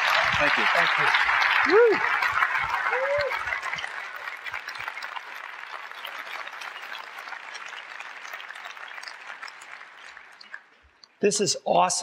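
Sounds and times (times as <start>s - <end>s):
large audience applauding: 0.0s - 10.8s.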